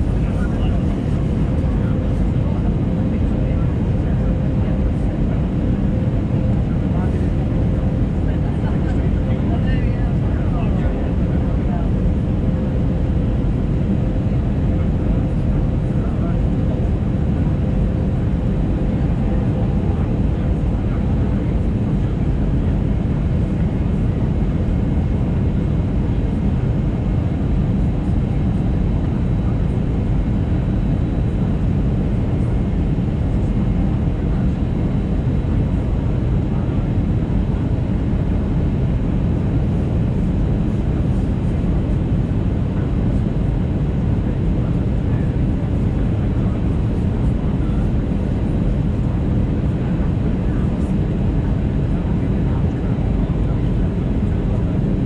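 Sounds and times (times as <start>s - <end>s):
airflow noise in aircraft cabin: 0.0s - 55.0s.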